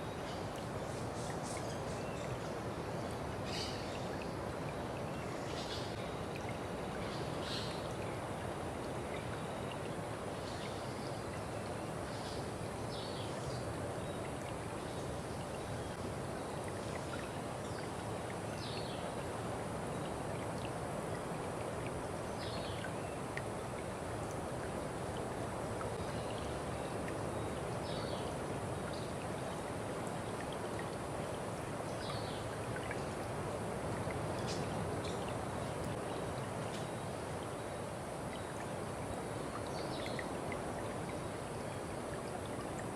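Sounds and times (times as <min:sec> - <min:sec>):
stream running water: 0:00.0 - 0:42.9.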